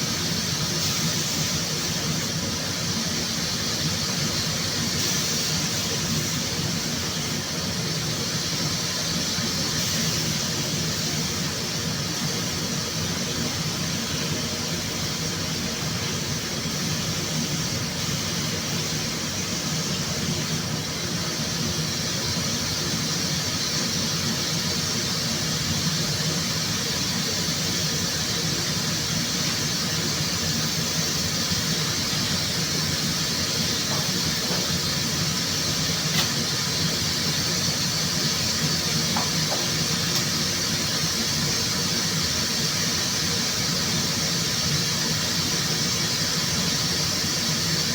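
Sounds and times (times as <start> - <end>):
paint spray gun hissing: 0.0 - 47.9.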